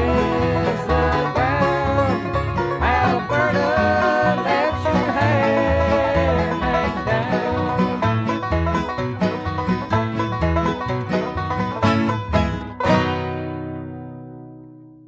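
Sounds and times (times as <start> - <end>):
banjo picking: 0.0 - 15.0
bass: 0.0 - 15.0
guitar: 0.0 - 15.0
sliding lead melody: 0.0 - 15.0.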